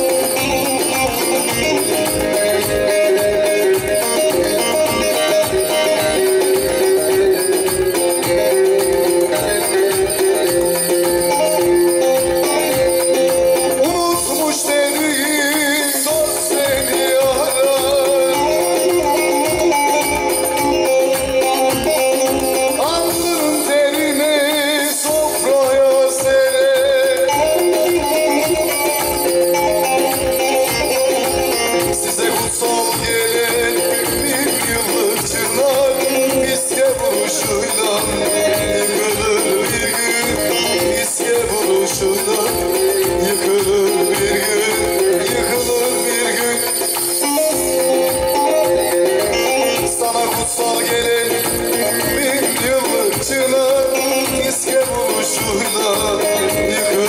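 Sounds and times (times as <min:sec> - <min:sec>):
electronic keyboard: 0:00.0 - 0:57.0
shaker-like percussion: 0:00.0 - 0:57.0
steady drum beat: 0:00.0 - 0:57.0.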